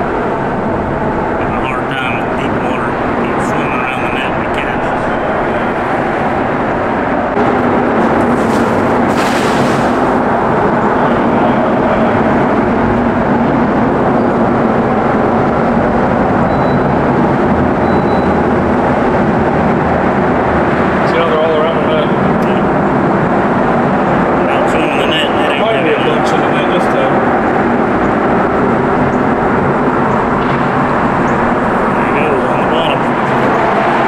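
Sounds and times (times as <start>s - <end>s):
road traffic roar: 0.0s - 34.0s.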